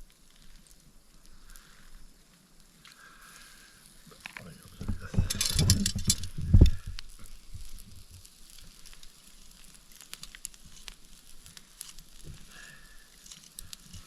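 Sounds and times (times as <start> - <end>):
campfire crackling and popping: 0.0 - 14.0
meat sizzling in butter: 0.0 - 14.0.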